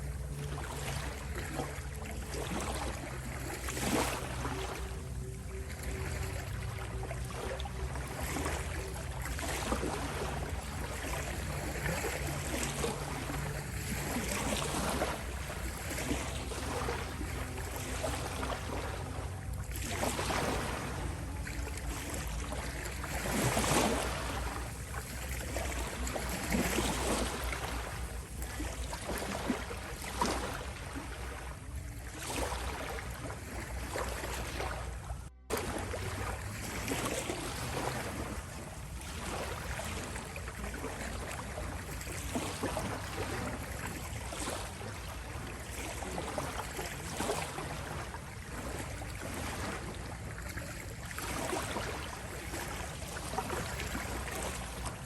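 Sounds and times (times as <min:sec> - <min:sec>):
steady low rumble: 0:00.0 - 0:46.8
ocean waves washing in: 0:00.0 - 0:55.0.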